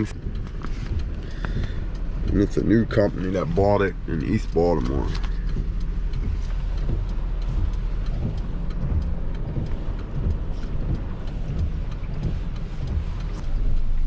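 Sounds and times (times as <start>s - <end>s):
rain pattering: 0.0s - 14.0s
truck engine humming: 0.0s - 14.0s.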